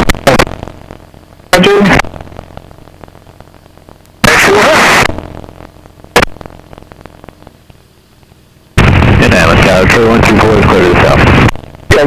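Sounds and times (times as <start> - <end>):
garbled radio transmission with static: 0.0 - 12.0.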